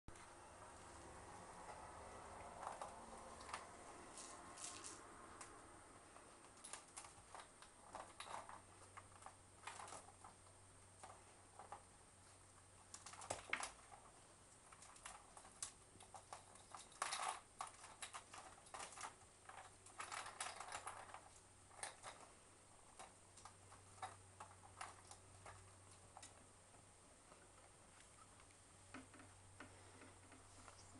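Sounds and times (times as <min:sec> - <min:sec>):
kitten scratching and rustling: 0:00.8 - 0:30.9.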